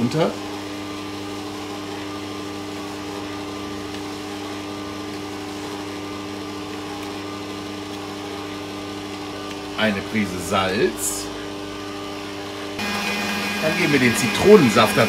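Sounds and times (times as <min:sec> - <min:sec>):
stand mixer motor humming: 0:00.4 - 0:10.8, 0:11.4 - 0:15.0.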